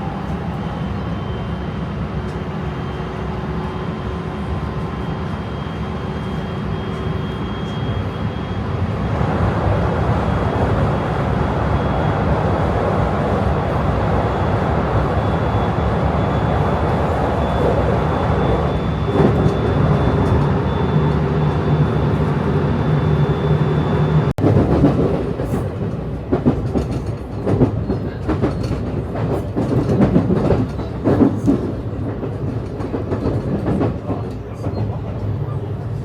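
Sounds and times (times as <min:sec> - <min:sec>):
train humming: 0:00.0 - 0:36.0.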